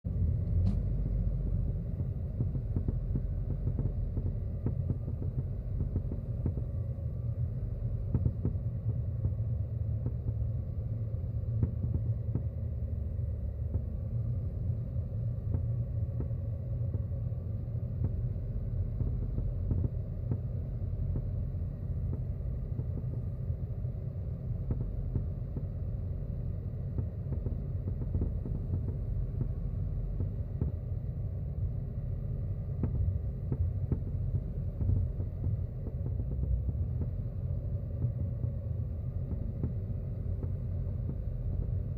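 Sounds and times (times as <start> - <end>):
low road rumble: 0.0 - 41.9.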